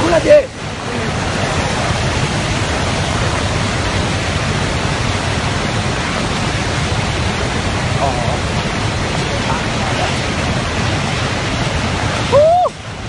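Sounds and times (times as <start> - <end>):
flood water rushing: 0.0 - 13.0.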